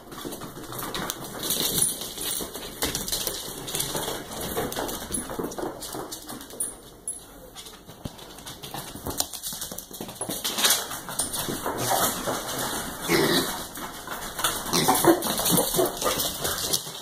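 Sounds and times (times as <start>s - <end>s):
claws and hooves clattering on wood: 0.0s - 17.0s.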